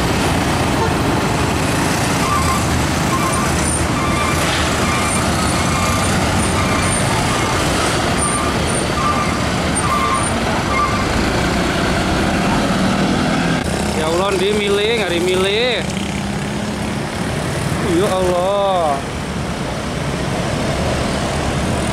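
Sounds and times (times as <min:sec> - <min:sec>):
heavy traffic: 0:00.0 - 0:21.9
motorcycle engines: 0:00.0 - 0:21.9
truck diesel engine: 0:00.0 - 0:21.9.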